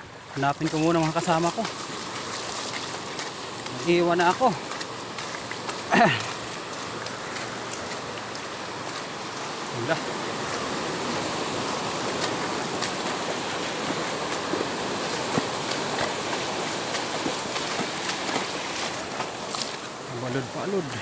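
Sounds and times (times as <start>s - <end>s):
surf washing over rocks: 0.3s - 21.0s.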